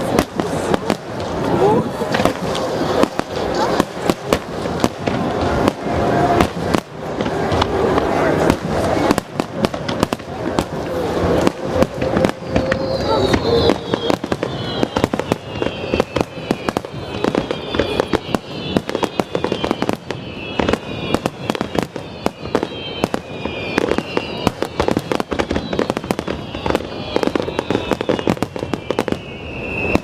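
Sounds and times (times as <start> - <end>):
fireworks bursting and crackling: 0.0 - 30.0
high descending firework whistles: 0.0 - 30.0.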